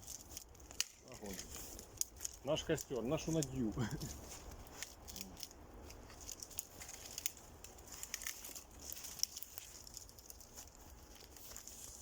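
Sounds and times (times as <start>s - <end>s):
dry twigs snapping: 0.0s - 12.0s.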